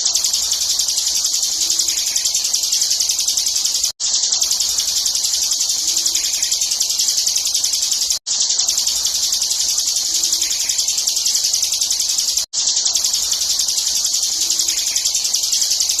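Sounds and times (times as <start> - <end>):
bird chattering song: 0.0 - 16.0.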